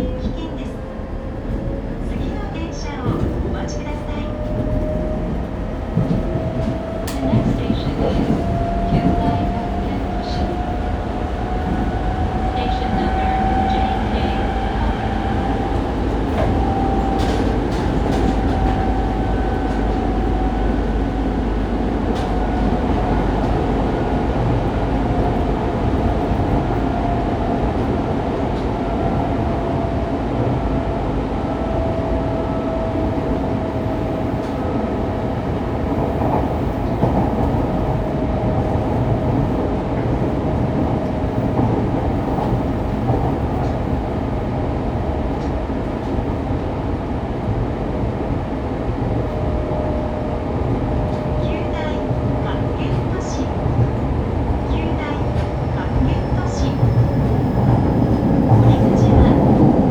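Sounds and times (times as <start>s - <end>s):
wheels rumbling on track: 0.0s - 59.9s.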